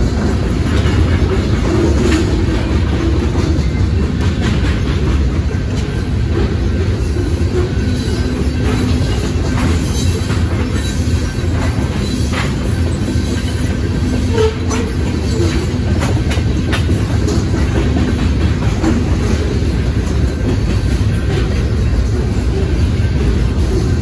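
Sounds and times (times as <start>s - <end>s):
train wheels rumbling on rails: 0.0s - 24.0s
wheels clacking over track: 0.0s - 24.0s.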